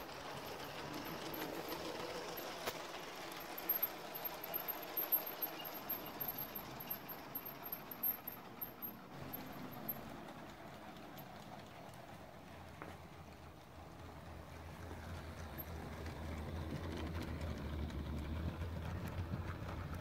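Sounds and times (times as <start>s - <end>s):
model train rumbling: 0.0s - 20.0s
wheels clicking over track joints: 0.0s - 20.0s.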